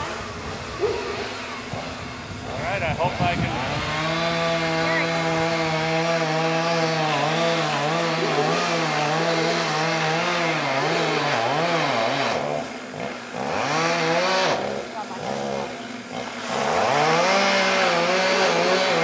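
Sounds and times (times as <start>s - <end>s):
chainsaw engine cutting: 0.0s - 19.0s.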